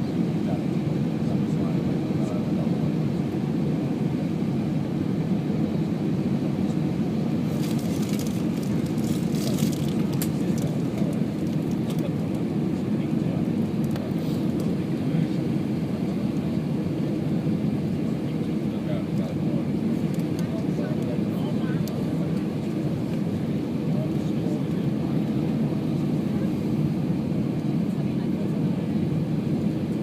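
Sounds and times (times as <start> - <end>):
aircraft engines rumbling in cabin: 0.0 - 30.0.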